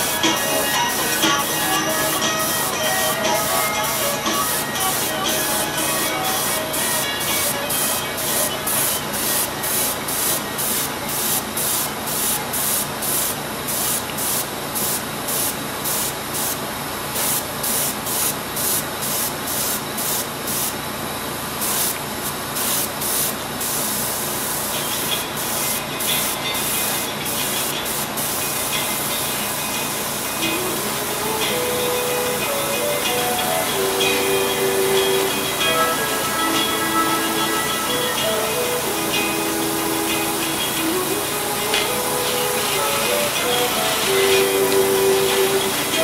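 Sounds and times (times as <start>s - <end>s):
airbrush spraying paint: 0.0s - 20.9s, 21.5s - 46.0s.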